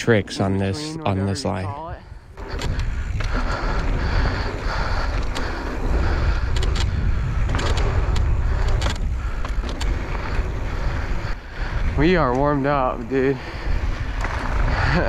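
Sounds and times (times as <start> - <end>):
knobby tyres on dirt: 0.0 - 15.0
wind rumble on microphone: 1.7 - 15.0
bike clacking and rattling: 2.4 - 15.0.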